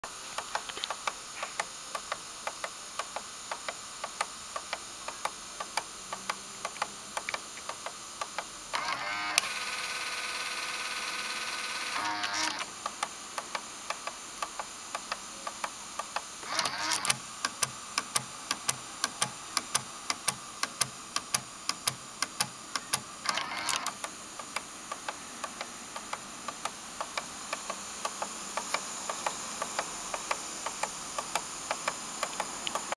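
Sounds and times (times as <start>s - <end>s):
cassette deck whirring: 0.2s - 32.9s.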